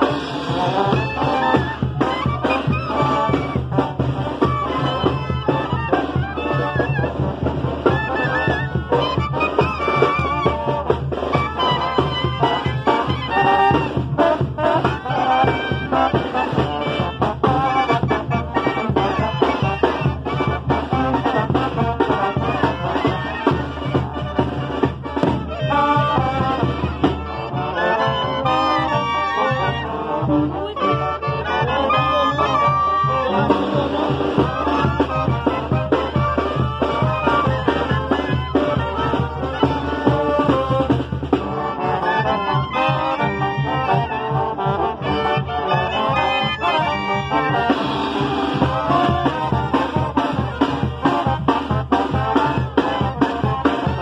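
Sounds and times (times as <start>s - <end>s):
steady drum beat: 0.0s - 27.6s, 32.5s - 54.0s
brass band playing: 0.0s - 54.0s
trumpets and trombones: 0.0s - 54.0s.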